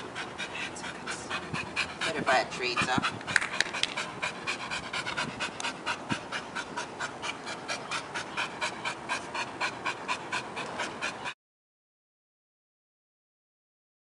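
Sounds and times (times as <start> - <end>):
dog panting: 0.0 - 11.4.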